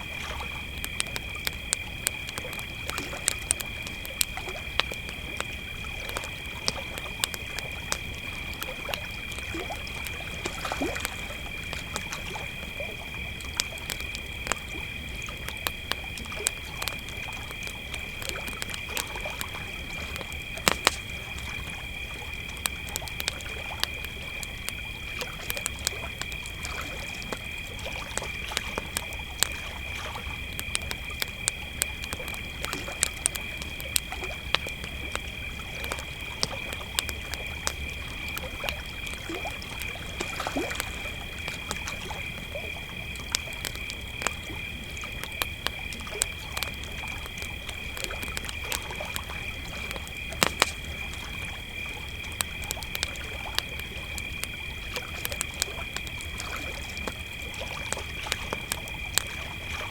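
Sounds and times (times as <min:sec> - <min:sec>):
campfire crackling and popping: 0:00.0 - 0:59.9
crickets trilling: 0:00.0 - 0:59.9.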